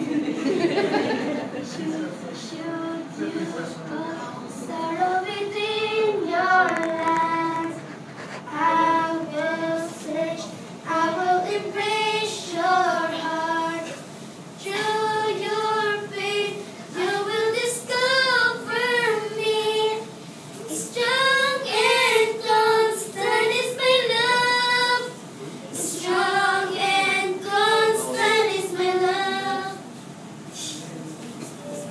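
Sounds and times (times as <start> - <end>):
girl singing unaccompanied: 2.4 - 7.9, 8.5 - 14.0, 14.6 - 25.2, 25.8 - 29.9.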